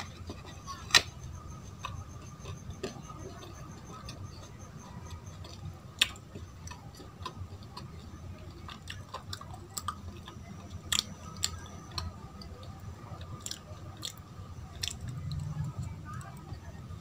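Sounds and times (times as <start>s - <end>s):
faint steady hum: 0.0s - 17.0s
mouth clicks and chewing: 0.0s - 17.0s.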